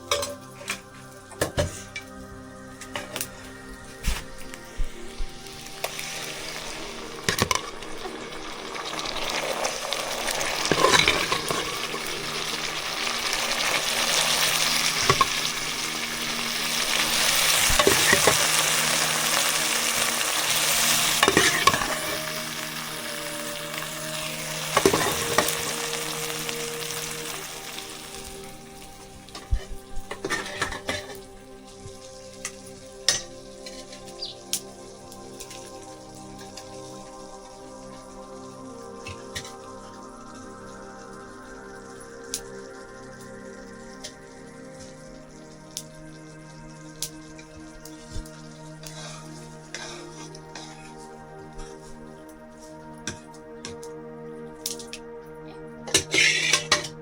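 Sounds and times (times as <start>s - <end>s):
food sizzling in oil: 0.0s - 53.5s.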